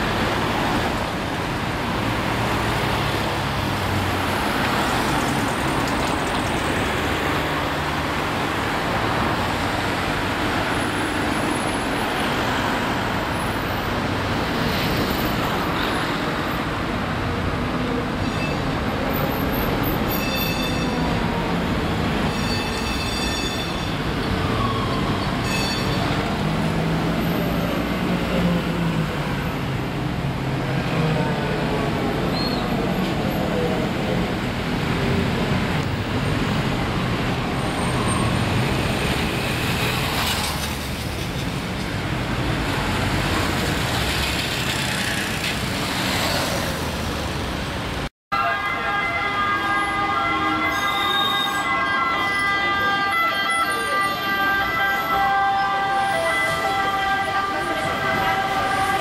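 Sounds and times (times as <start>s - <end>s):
traffic rumble and tyre hiss: 0.0s - 59.0s.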